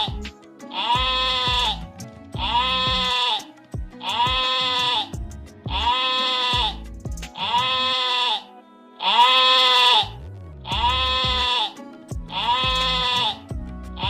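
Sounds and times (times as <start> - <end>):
background music with steady beat: 0.0 - 14.0.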